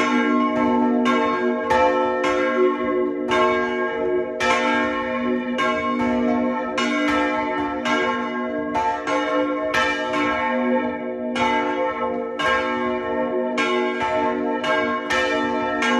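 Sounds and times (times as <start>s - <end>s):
church bells ringing: 0.0s - 15.9s.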